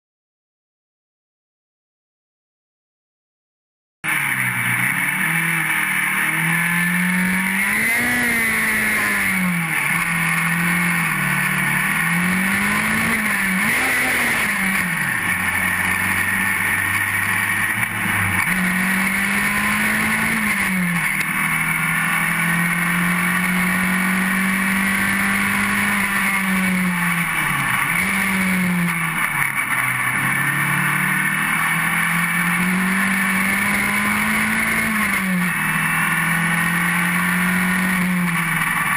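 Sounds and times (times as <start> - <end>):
race car engine revving: 4.1 - 38.9.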